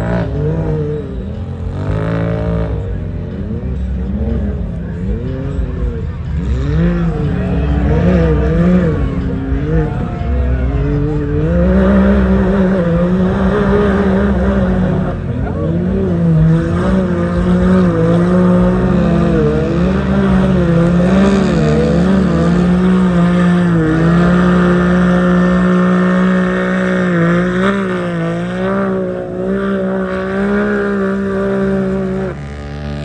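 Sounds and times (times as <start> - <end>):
race vehicle engine revving: 0.0 - 33.0.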